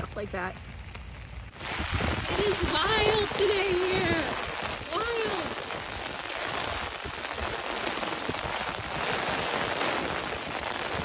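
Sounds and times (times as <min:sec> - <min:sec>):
heavy rain on umbrella: 0:00.0 - 0:11.0
wind buffeting microphone: 0:01.4 - 0:11.0.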